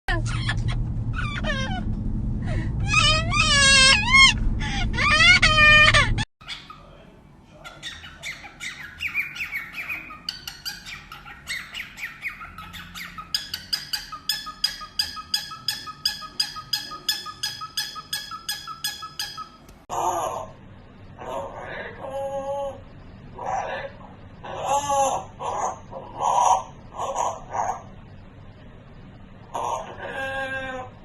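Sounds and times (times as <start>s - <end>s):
parrot squawking: 0.1s - 1.9s, 2.8s - 7.0s, 7.6s - 20.6s, 21.2s - 22.8s, 23.4s - 28.0s, 29.5s - 31.0s.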